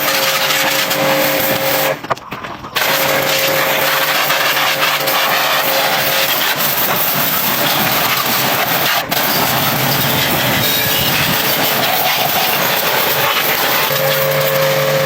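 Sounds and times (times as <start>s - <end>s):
power tool running: 0.0s - 2.0s, 2.8s - 15.0s.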